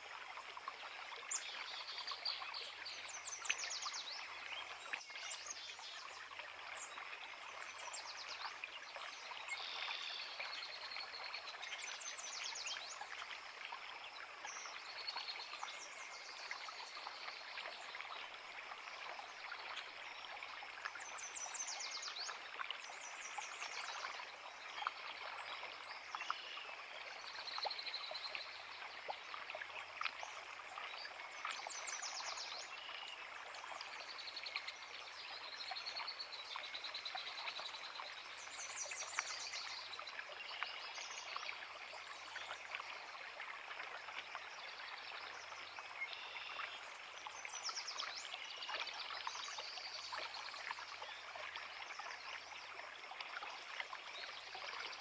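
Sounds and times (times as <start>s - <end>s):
creek babbling: 0.0s - 55.0s.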